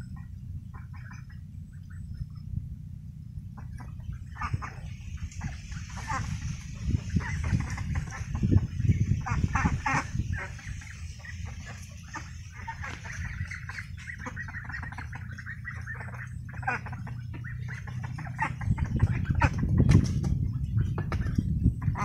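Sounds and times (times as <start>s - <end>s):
ducks quacking: 0.0s - 2.6s, 3.4s - 22.0s
steady low rumble: 0.0s - 22.0s.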